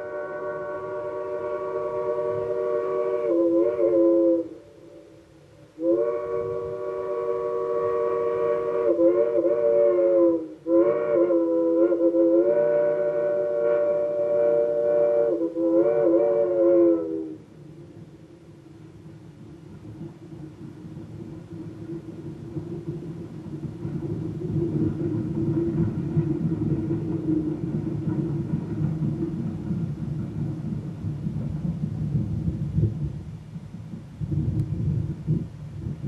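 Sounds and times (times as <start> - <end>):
steam locomotive rumbling: 0.0 - 36.0.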